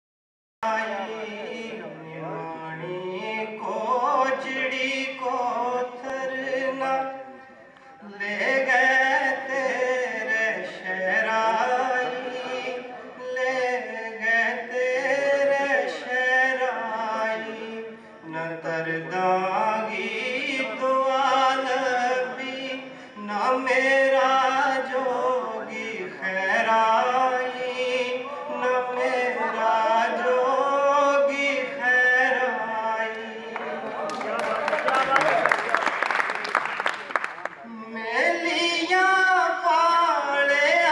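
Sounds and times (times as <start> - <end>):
man singing: 0.6 - 33.9, 37.6 - 40.9.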